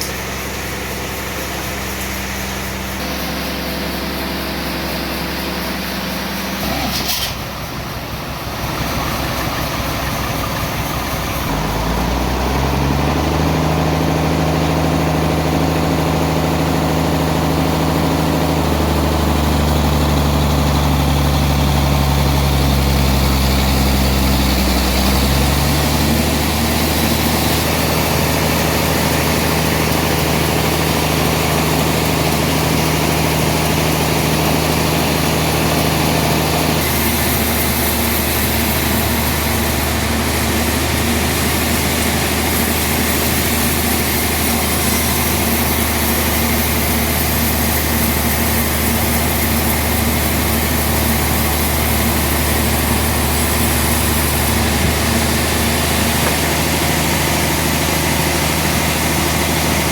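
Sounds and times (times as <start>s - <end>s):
sawmill machinery engine drone: 0.0s - 59.9s.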